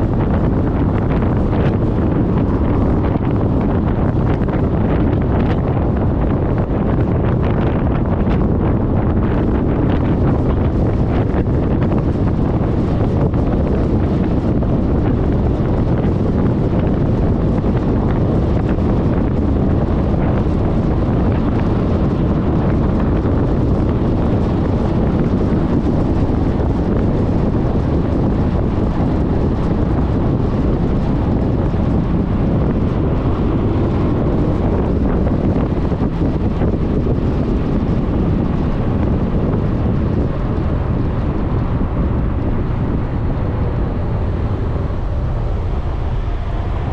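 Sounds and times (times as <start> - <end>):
scooter engine and road noise: 0.0 - 46.9
wind rush on microphone: 0.0 - 46.9.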